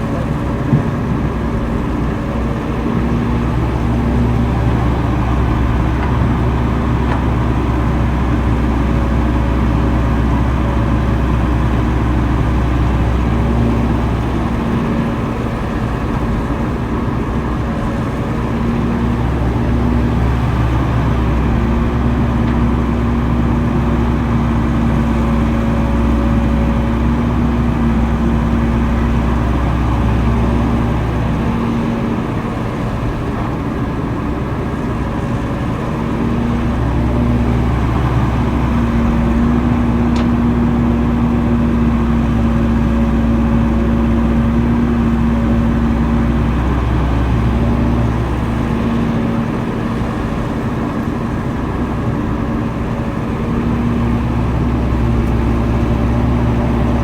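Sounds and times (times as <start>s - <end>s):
heavy machinery diesel engines rumbling: 0.0s - 57.0s.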